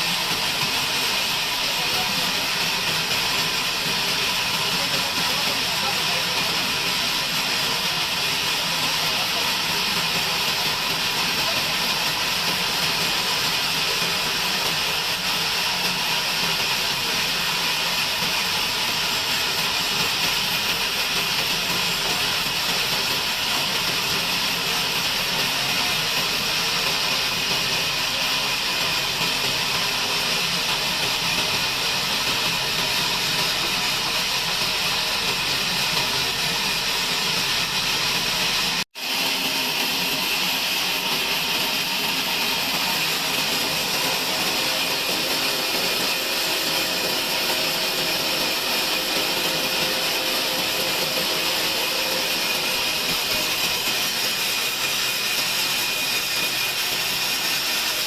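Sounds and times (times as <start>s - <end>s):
bandsaw cutting through log: 0.0s - 58.0s.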